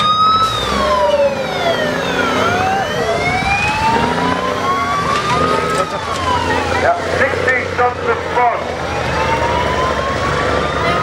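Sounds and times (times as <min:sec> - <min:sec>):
fire engine siren wailing: 0:00.0 - 0:11.0
truck engine rumble: 0:00.0 - 0:11.0.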